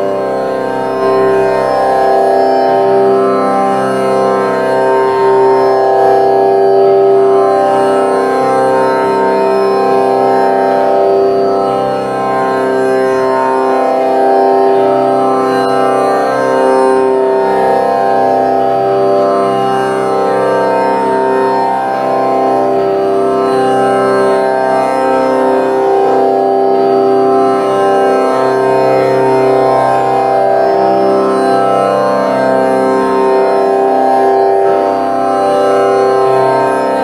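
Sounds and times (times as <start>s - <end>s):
slow melody over drone: 0.0s - 37.0s.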